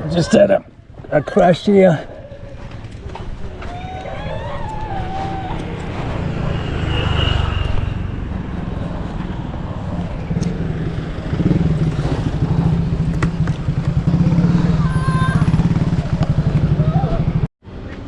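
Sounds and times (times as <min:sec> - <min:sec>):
road traffic: 0:00.0 - 0:18.0
motorbike engine running: 0:02.0 - 0:17.5.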